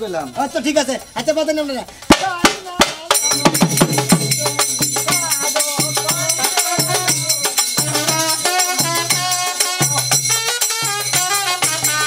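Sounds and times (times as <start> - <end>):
jingling percussion: 0.0 - 12.0
dhol drum beating: 0.1 - 12.0.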